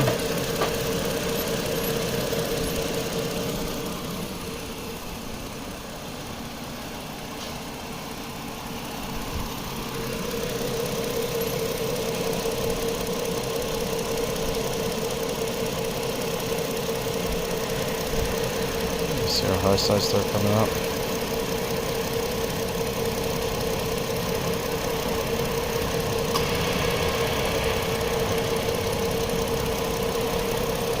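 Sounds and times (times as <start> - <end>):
car engine idling: 0.0 - 31.0
steady whine: 0.0 - 31.0.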